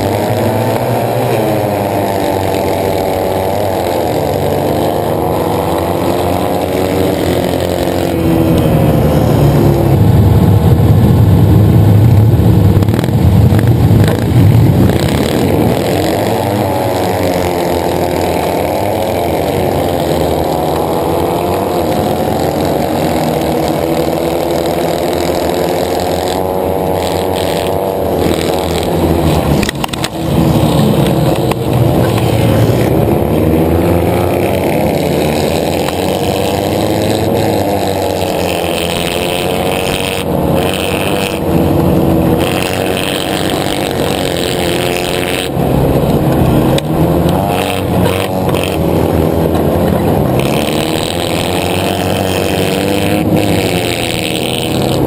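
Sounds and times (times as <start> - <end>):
buggy engine revving: 0.0 - 55.0
other engines running nearby: 0.0 - 55.0.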